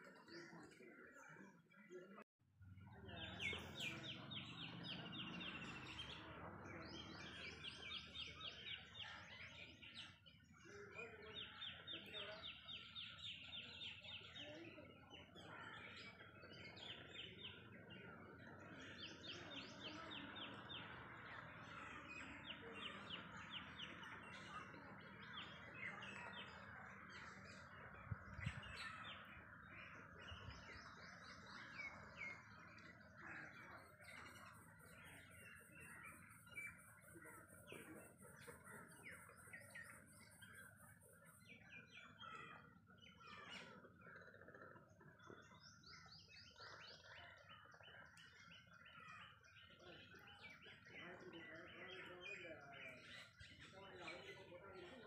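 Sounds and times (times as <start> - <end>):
birds chattering trills: 2.9 - 55.0.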